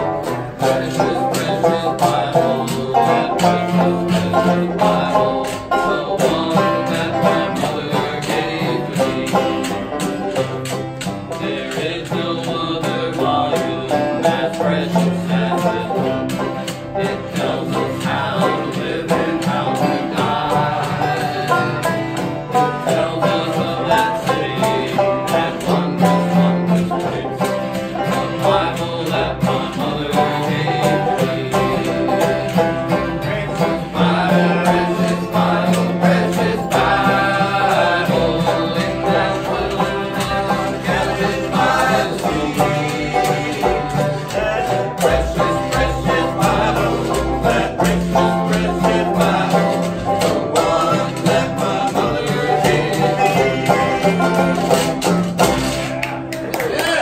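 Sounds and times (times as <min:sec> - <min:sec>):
men singing together: 0:00.0 - 0:55.8, 0:56.6 - 0:57.0
acoustic guitar strumming: 0:00.0 - 0:57.0
banjo picking: 0:00.0 - 0:57.0
washtub bass: 0:00.0 - 0:57.0.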